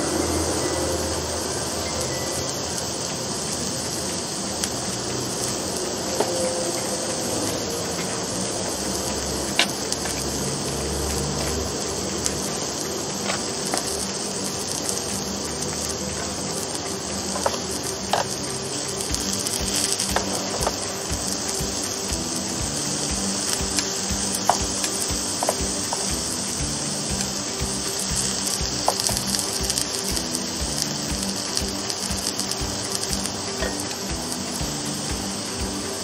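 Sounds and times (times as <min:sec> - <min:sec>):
vegetables sizzling on grill: 0:00.0 - 0:36.0.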